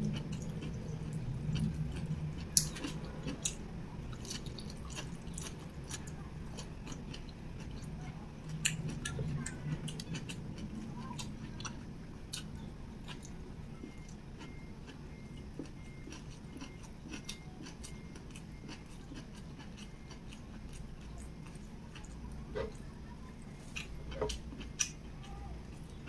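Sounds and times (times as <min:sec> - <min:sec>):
close chewing: 0:00.0 - 0:26.0
low steady hum: 0:00.0 - 0:26.0.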